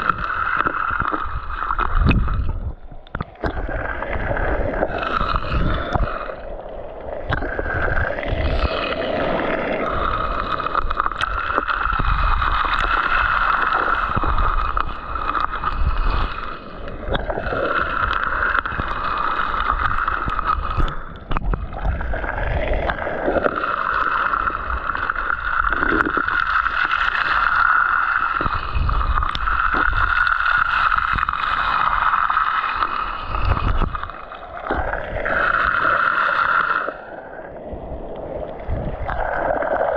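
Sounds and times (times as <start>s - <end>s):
sea water gurgling and sloshing: 0.0s - 39.9s.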